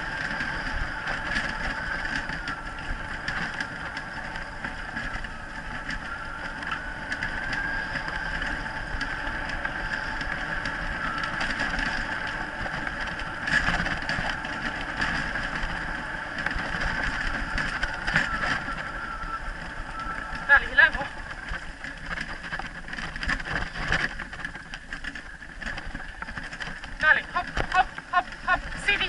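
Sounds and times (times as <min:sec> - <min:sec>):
rig rattling and knocking: 0:00.0 - 0:29.0
steady high whine: 0:00.0 - 0:29.0
wheels rolling on dirt trail: 0:00.0 - 0:29.0.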